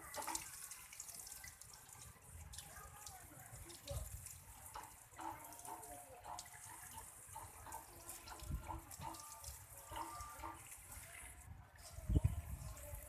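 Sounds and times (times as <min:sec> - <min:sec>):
water splashing and dripping: 0:00.0 - 0:13.0.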